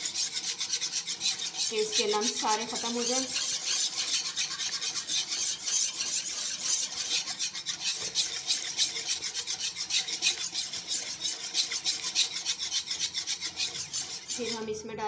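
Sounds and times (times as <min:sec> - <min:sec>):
spoon scraping yogurt in pan: 0:00.0 - 0:14.8.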